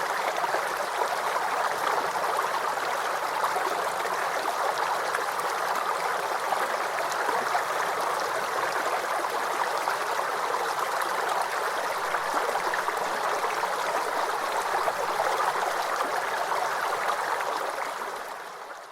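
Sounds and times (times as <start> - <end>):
water stream flowing: 0.0 - 18.9.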